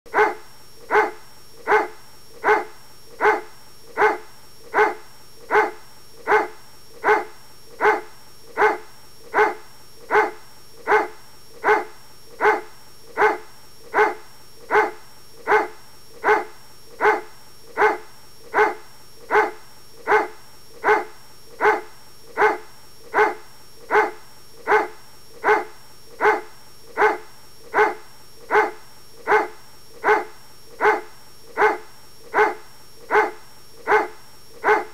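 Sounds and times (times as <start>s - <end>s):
dog barking: 0.1s - 34.9s.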